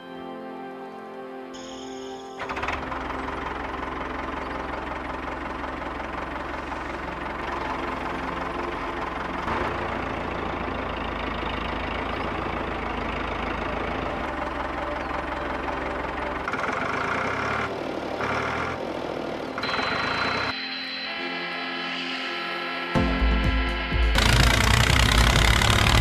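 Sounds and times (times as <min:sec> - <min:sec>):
tractor engine chugging: 0:02.4 - 0:20.6, 0:23.0 - 0:26.0.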